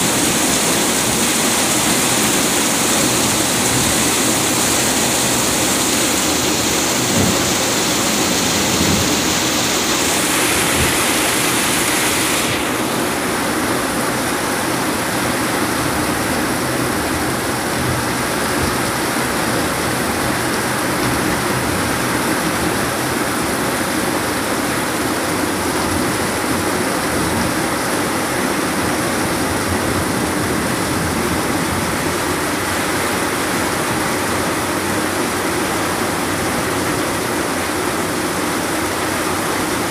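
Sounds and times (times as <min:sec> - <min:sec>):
heavy rain on roofs: 0:00.0 - 0:39.9
water streaming off roof edge: 0:00.0 - 0:39.9.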